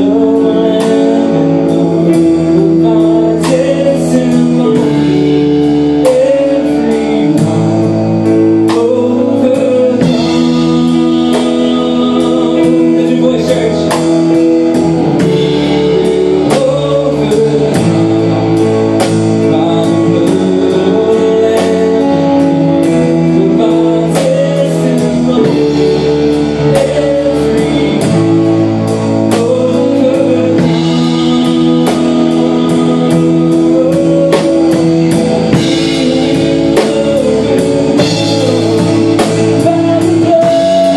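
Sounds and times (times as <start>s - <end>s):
drum kit beat: 0.0s - 40.9s
guitars playing chords: 0.0s - 40.9s
person singing: 0.0s - 40.9s.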